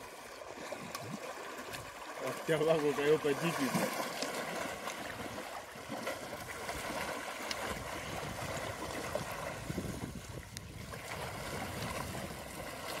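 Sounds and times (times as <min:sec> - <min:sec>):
small sharp splashes: 0:00.0 - 0:13.0
water sloshing and splashing: 0:00.0 - 0:13.0.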